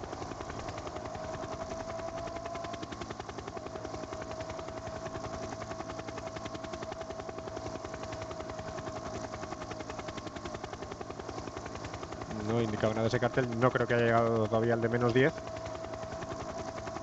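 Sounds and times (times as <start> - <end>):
helicopter engine whine: 0.0 - 17.0
helicopter rotor chopping: 0.0 - 17.0.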